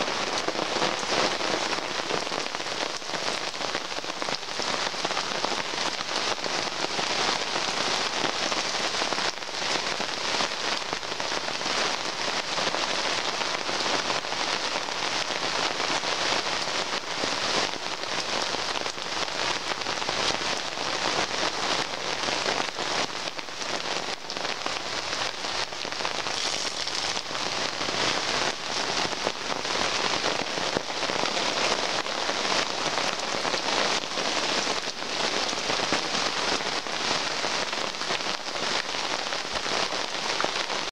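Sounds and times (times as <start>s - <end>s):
heavy rain on tarp: 0.0s - 40.9s.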